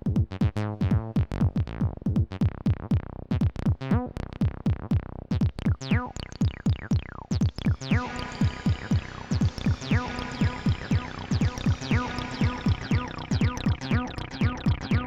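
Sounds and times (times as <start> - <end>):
fast drum machine hits: 0.0 - 3.8, 4.4 - 15.0
bending bass line: 0.0 - 15.0.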